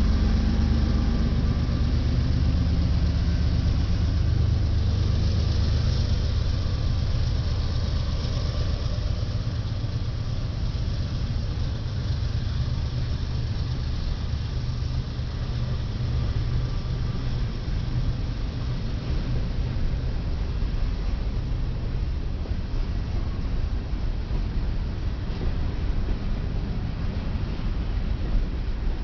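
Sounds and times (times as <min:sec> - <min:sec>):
locomotive engines rumbling: 0:00.0 - 0:29.0.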